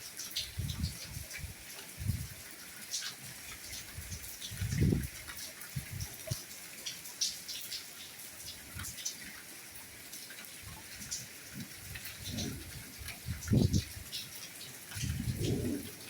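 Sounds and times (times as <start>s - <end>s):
raindrops ticking: 0.0s - 16.0s
steady rainfall hiss: 0.0s - 16.0s.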